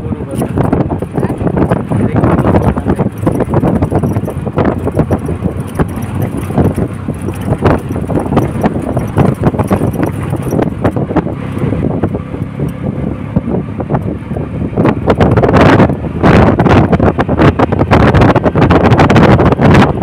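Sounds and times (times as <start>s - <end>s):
road vehicle rumble: 0.0s - 20.0s
wind buffeting microphone: 0.0s - 20.0s.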